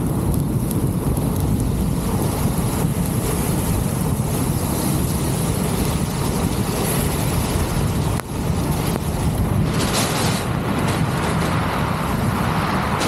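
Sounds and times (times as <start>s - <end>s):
tyre hiss on wet road: 0.0s - 13.0s
vehicle engine: 0.0s - 13.0s
wind buffeting microphone: 0.0s - 13.0s.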